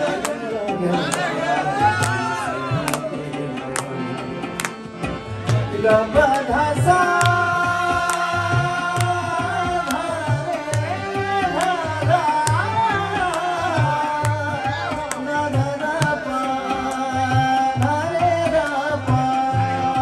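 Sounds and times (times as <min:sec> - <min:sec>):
man singing: 0:00.0 - 0:04.7, 0:05.5 - 0:20.0
harmonium chords: 0:00.0 - 0:20.0.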